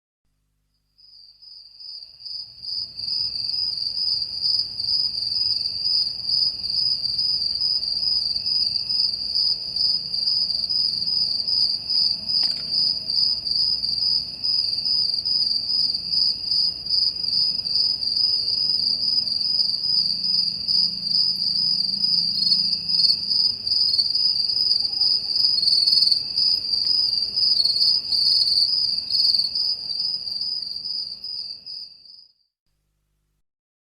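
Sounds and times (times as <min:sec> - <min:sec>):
crickets chirping: 0:00.7 - 0:32.5.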